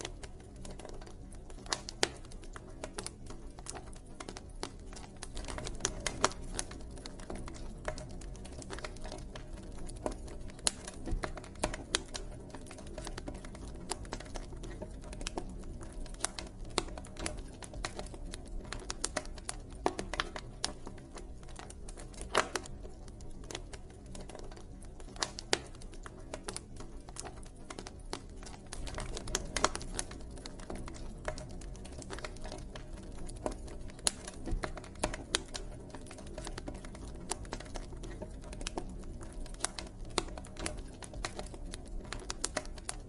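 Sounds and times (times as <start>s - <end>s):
low rumble of flames: 0.0s - 43.0s
wood crackling and popping: 0.0s - 43.0s.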